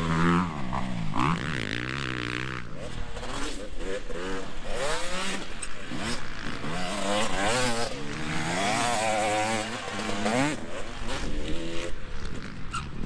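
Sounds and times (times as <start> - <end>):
bikes running steadily: 0.0 - 13.0
dirt bike engines revving: 0.0 - 13.0.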